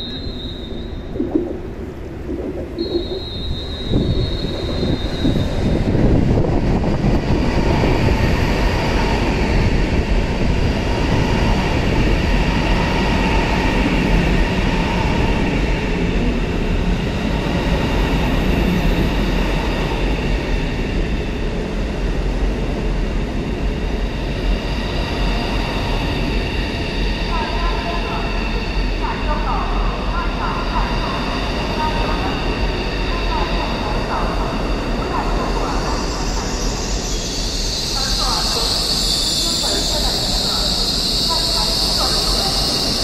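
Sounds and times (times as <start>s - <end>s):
train wheels rumbling on rail: 3.2s - 43.0s.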